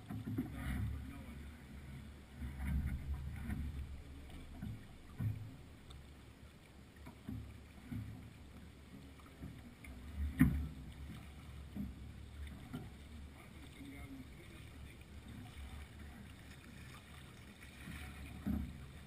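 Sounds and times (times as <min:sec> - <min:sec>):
wind and water rumble: 0:00.0 - 0:19.0.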